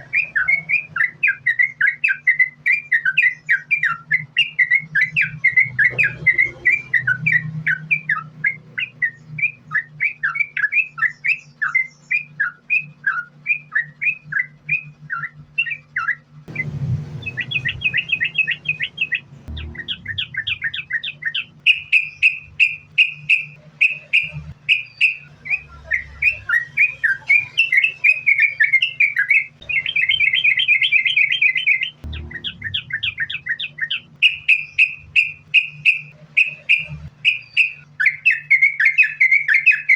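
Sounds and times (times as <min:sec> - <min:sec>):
bird whistled song with trills: 0:00.0 - 0:39.9
steady low hum: 0:00.0 - 0:39.9.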